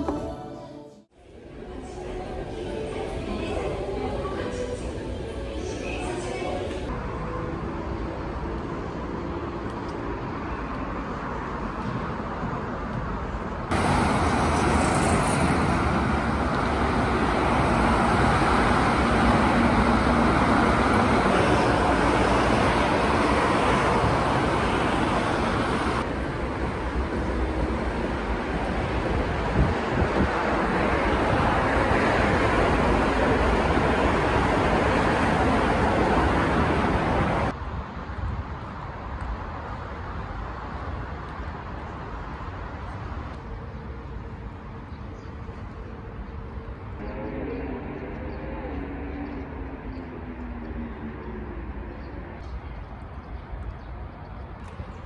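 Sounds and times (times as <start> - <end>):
road traffic noise: 1.0 - 55.0.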